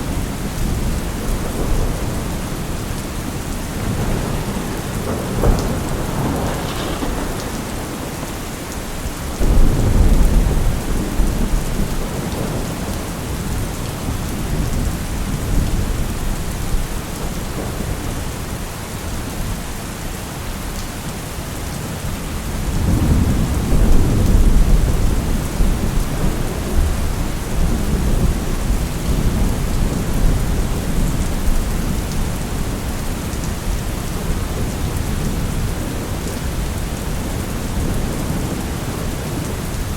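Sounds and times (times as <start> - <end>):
rolling thunder: 0.0 - 18.7, 22.5 - 39.9
steady rain: 0.0 - 39.9.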